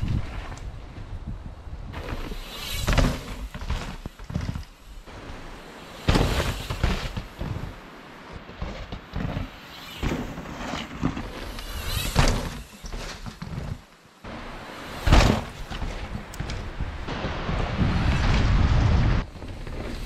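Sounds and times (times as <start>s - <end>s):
bike tyres crunching over stones: 1.9s - 20.0s.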